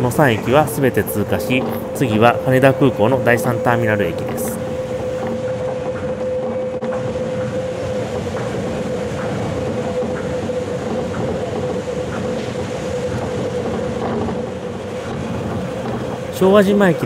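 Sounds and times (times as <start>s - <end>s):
constant motor whine: 0.0s - 17.0s
monorail train running: 0.0s - 17.0s.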